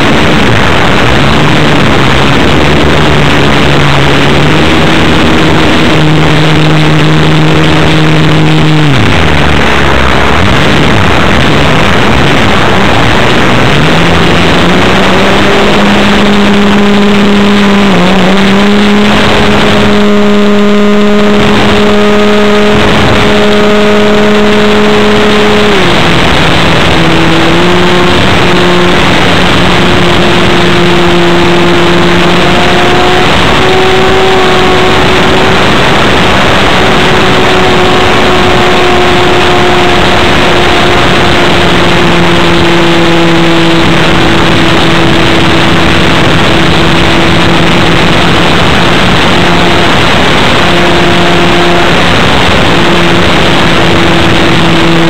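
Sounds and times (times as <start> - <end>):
model airplane engine droning: 0.0 - 55.0
rushing air: 0.0 - 55.0.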